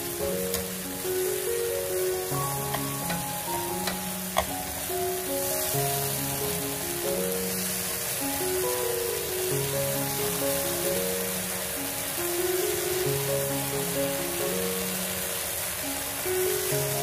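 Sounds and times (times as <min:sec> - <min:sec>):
background music: 0:00.0 - 0:17.0
tomatoes sizzling in oil: 0:00.0 - 0:17.0.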